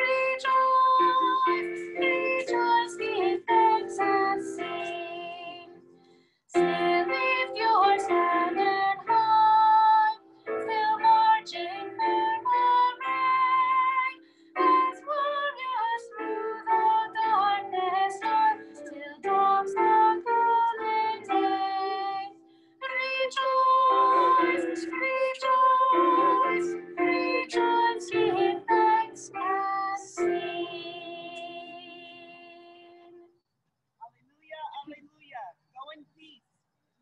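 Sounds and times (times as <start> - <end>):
woman singing a hymn: 0.0 - 5.8, 6.6 - 33.2
keyboard accompaniment: 0.0 - 33.3.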